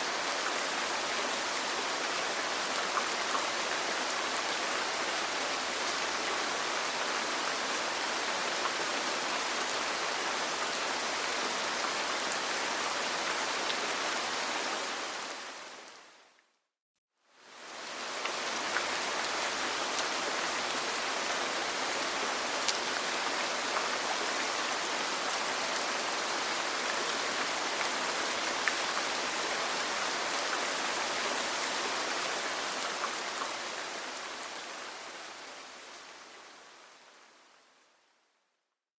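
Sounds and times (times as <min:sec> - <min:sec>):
rain falling on a roof: 0:00.0 - 0:16.4, 0:17.3 - 0:38.1.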